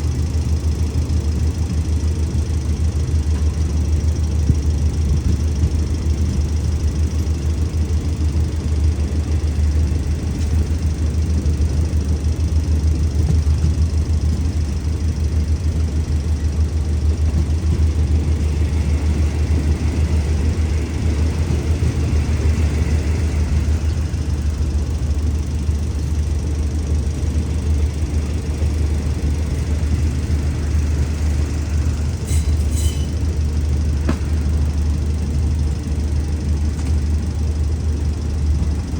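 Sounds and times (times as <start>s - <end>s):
diesel locomotive idling: 0.0s - 38.9s.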